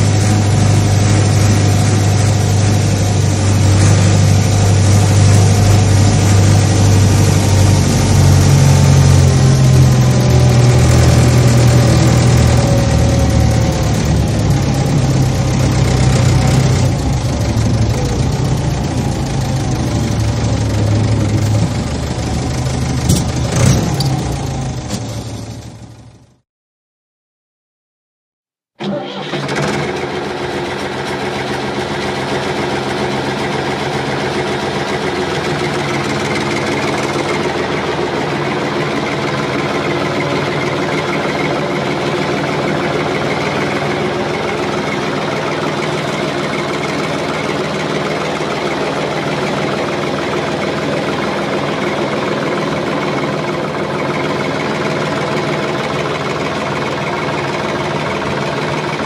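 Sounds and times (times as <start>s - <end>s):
diesel engine droning: 0.0s - 26.4s, 28.8s - 59.0s.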